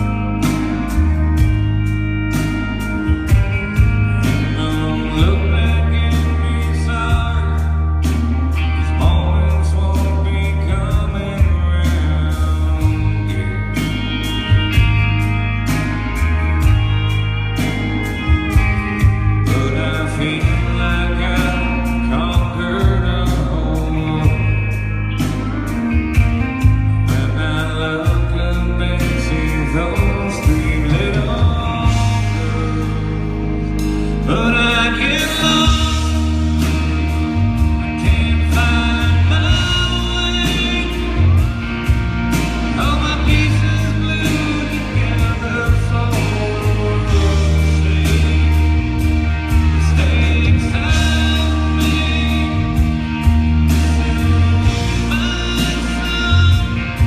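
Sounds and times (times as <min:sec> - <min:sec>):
guitars bending pitch: 0:00.0 - 0:57.0
rock band playing: 0:00.0 - 0:57.0.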